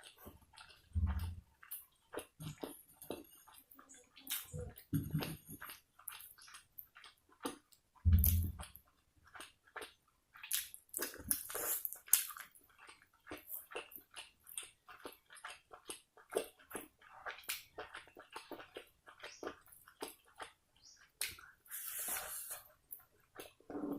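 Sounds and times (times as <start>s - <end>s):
wet chewing and lip smacking: 0.0s - 23.9s.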